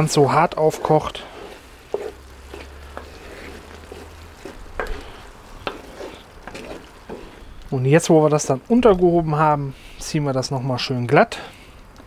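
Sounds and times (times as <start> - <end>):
wooden spatula stirring: 0.0 - 10.1
food sizzling in a skillet: 0.0 - 10.2.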